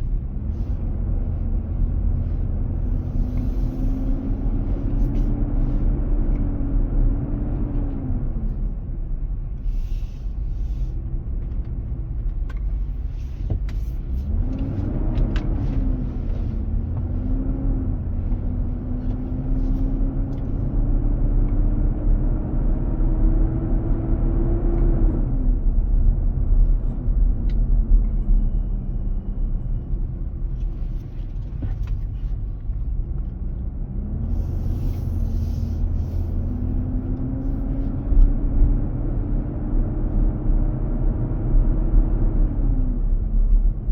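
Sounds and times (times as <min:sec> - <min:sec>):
low steady rumble: 0:00.0 - 0:43.9.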